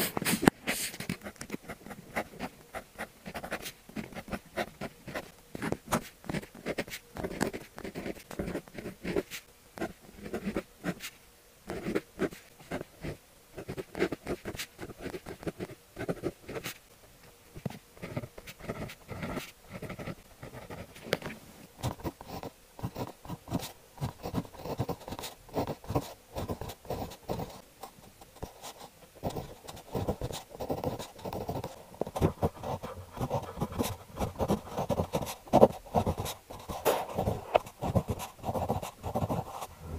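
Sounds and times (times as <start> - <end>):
pen scratching on paper: 0.0 - 11.1, 11.7 - 16.8, 17.6 - 21.0, 21.8 - 27.6, 28.3 - 39.9.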